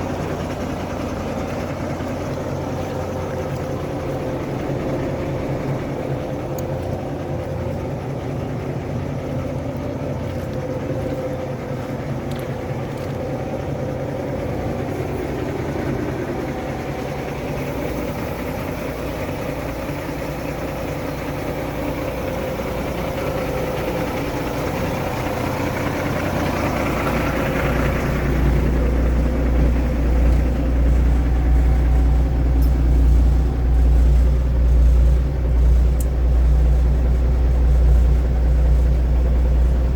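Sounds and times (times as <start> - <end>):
deep rumble: 0.0 - 39.9
diesel truck engine idling: 0.0 - 39.9.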